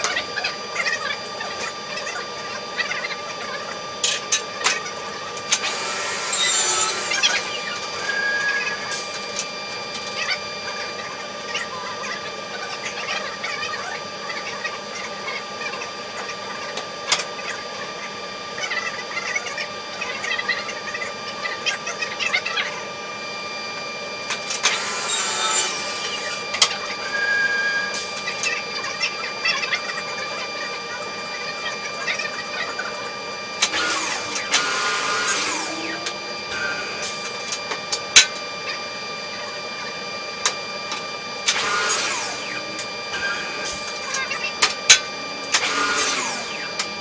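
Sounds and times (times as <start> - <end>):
machine whine: 0.0 - 47.0.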